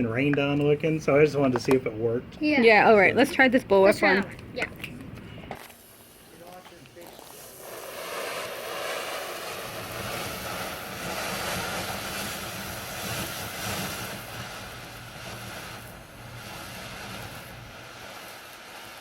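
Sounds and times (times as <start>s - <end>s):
firework fountain hissing: 0.0s - 19.0s.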